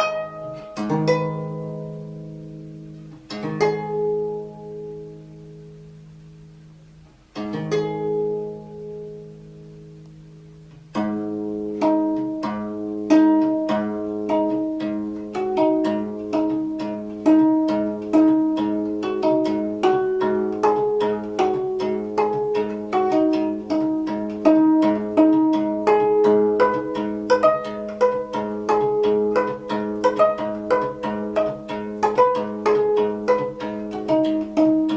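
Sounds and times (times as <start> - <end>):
plucked zither notes: 0.0 - 34.9.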